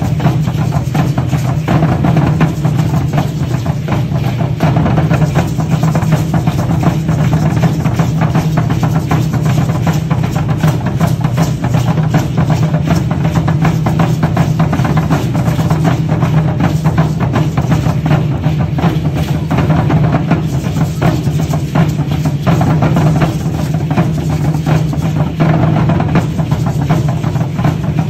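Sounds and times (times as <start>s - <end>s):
fast drumming: 0.0s - 28.0s
rattles shaking: 0.0s - 28.0s.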